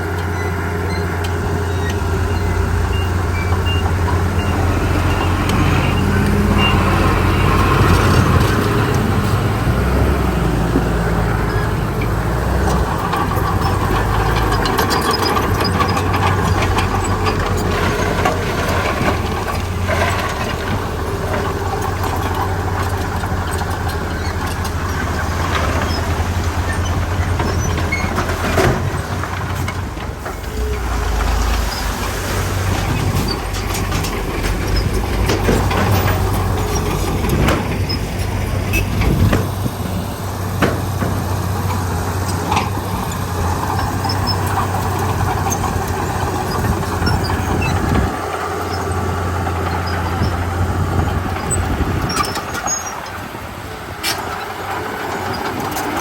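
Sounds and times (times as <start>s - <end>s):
diesel machinery engine running: 0.0s - 56.0s.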